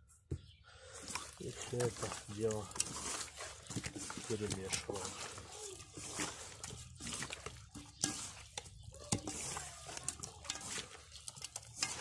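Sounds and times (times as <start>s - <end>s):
wet squishing of fish: 0.8s - 12.0s.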